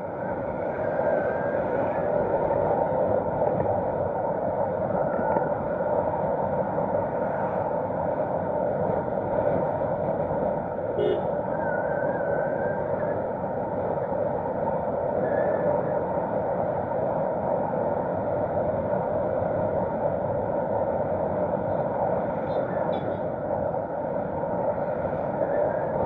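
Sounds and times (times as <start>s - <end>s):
moving vehicle running hum: 0.0s - 26.0s.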